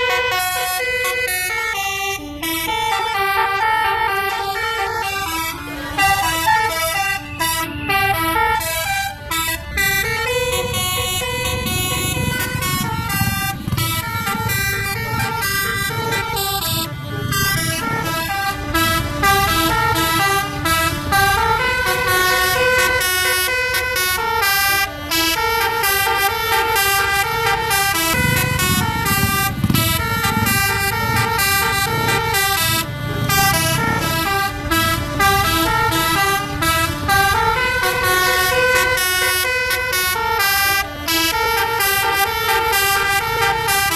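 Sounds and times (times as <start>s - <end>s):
engine and road rumble: 0.0s - 43.9s
multi-tone bus horn tune: 0.0s - 43.9s.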